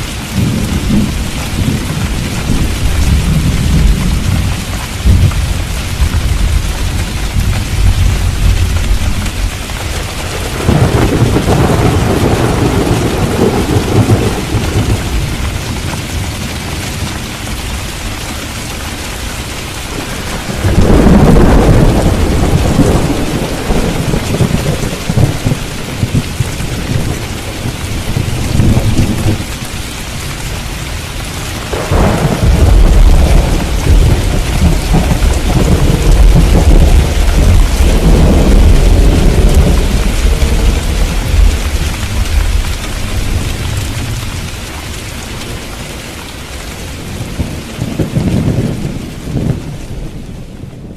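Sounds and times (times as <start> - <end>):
heavy rain: 0.0 - 50.9
thunder rumbling: 0.0 - 50.9.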